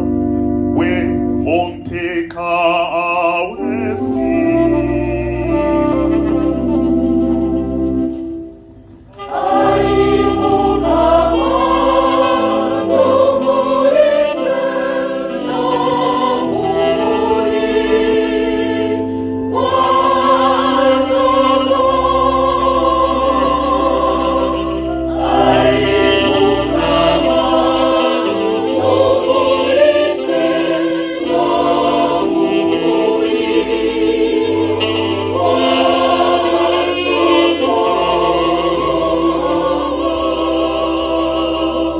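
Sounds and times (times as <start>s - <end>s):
choir singing a hymn: 0.0s - 41.9s.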